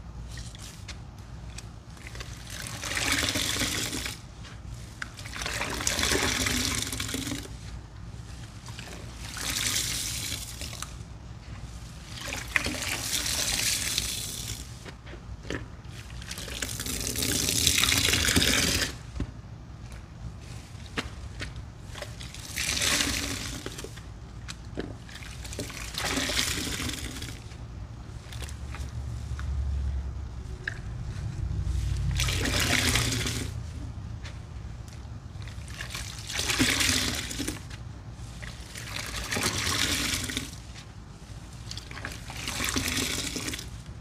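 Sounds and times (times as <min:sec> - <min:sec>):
soapy sponges squeezed: 0:00.0 - 0:19.2, 0:19.9 - 0:44.0
sudsy liquid trickling: 0:00.1 - 0:19.1, 0:20.4 - 0:44.0.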